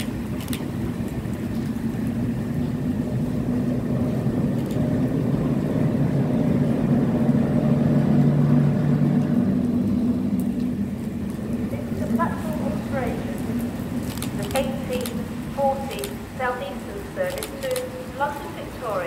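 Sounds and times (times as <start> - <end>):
locomotive engine drone: 0.0 - 19.0.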